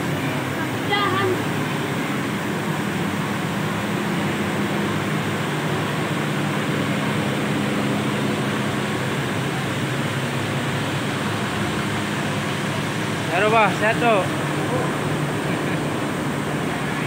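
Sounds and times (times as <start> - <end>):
air-conditioning rush: 0.0 - 17.0
bus engine idling: 0.0 - 17.0.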